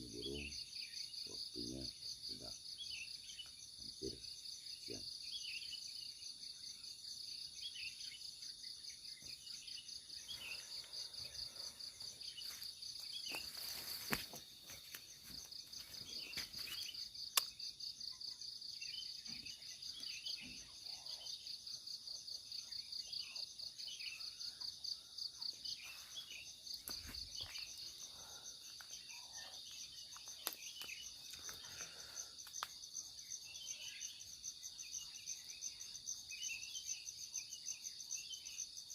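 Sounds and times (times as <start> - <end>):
bird chirps: 0.0 - 38.9.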